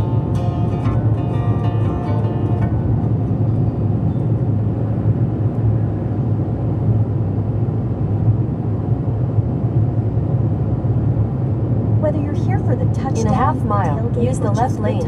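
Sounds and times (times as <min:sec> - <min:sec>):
road and engine noise inside car: 0:00.0 - 0:15.0.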